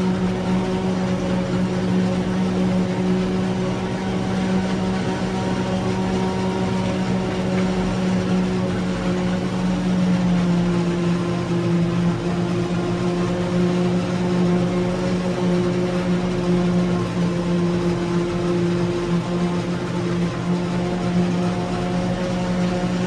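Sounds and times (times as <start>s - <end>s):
harvester engine drone: 0.0s - 23.0s.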